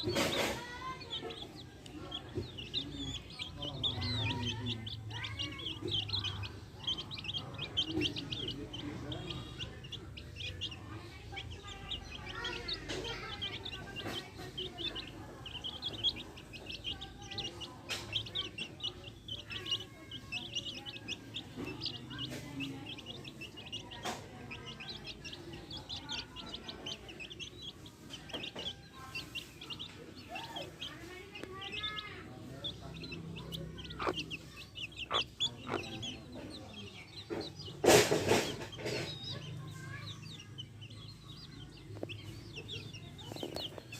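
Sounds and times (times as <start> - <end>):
chicks peeping: 0.0 - 43.9
hens clucking: 0.0 - 43.9.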